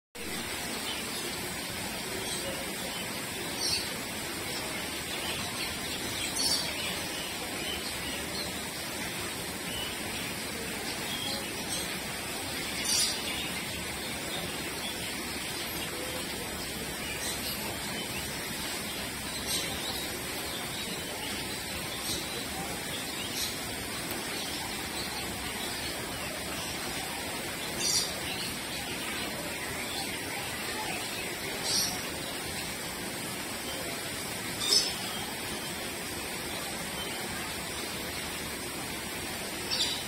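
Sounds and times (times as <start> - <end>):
steady background hiss: 0.2 - 40.0.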